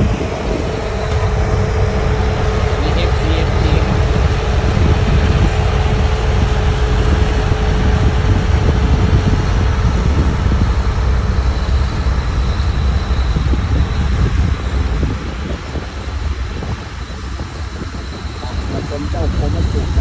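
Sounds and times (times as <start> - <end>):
road roller diesel engine rumbling: 0.0 - 20.0.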